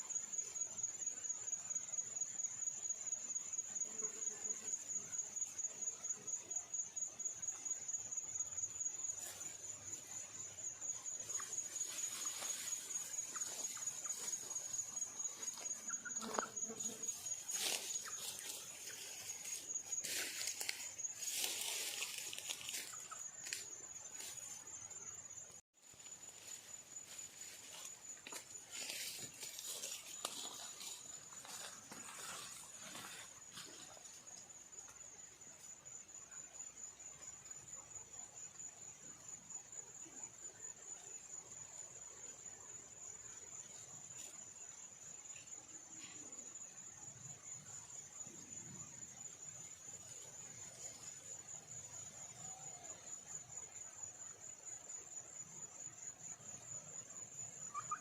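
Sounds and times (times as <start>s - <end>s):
high-pitched insect trill: 0.0s - 58.0s.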